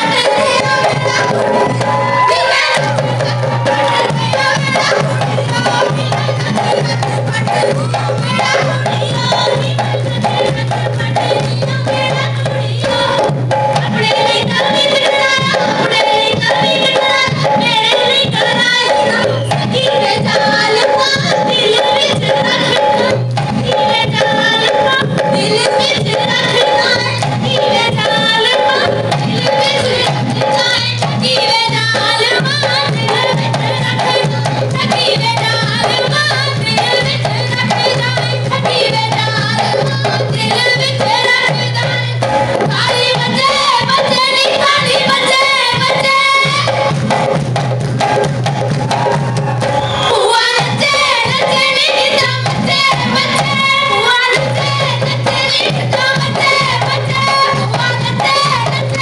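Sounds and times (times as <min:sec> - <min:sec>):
women singing: 0:00.0 - 0:47.3, 0:48.9 - 0:59.0
folk percussion: 0:00.0 - 0:59.0
steady drum beat: 0:00.0 - 0:59.0.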